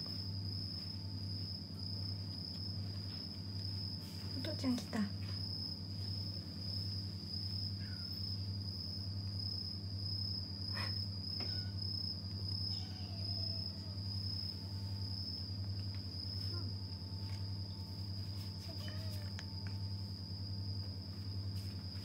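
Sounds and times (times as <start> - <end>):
low even hum: 0.0 - 22.0.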